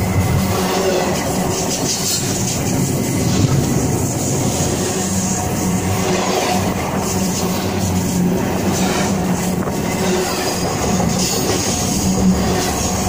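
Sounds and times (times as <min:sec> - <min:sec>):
train cars rushing past: 0:00.0 - 0:13.0.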